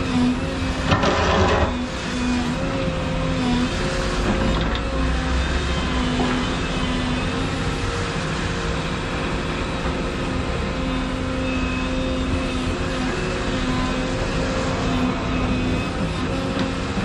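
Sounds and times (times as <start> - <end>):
excavator running: 0.0 - 17.0.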